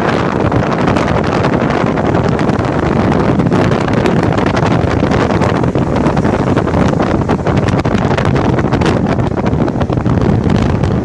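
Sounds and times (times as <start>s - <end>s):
sea waves rushing: 0.0s - 11.0s
wind buffeting microphone: 0.0s - 11.0s.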